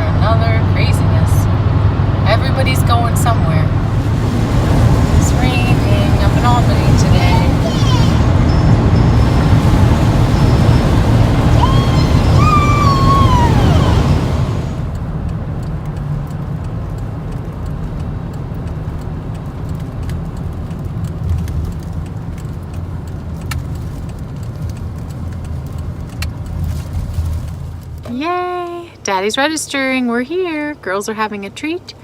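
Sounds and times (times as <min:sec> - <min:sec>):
car road and engine rumble: 0:00.0 - 0:32.0.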